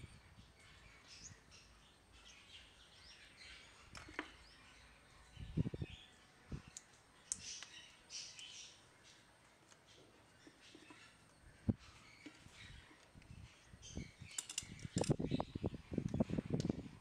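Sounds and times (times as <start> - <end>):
faint bird chirps: 0.0 - 16.4.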